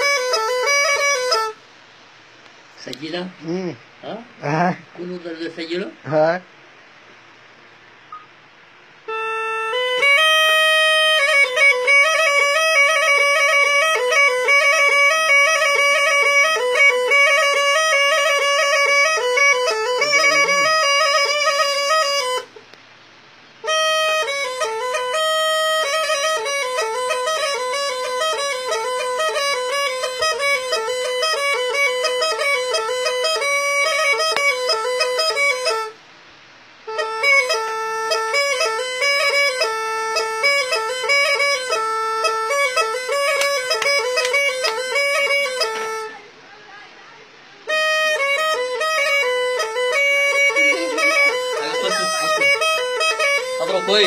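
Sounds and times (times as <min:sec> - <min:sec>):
reed pipe folk melody: 0:00.0 - 0:05.8, 0:08.1 - 0:54.0.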